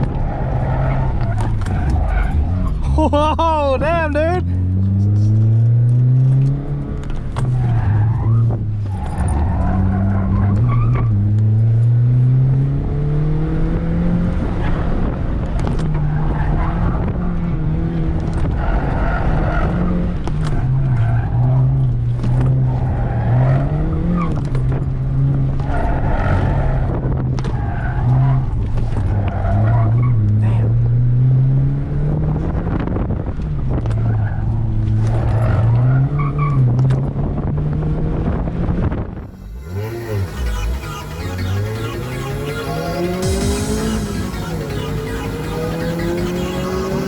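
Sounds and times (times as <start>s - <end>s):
tires squealing: 0.0s - 12.7s, 14.3s - 31.1s, 33.6s - 37.1s, 39.3s - 47.0s
car engine accelerating hard: 4.1s - 47.0s.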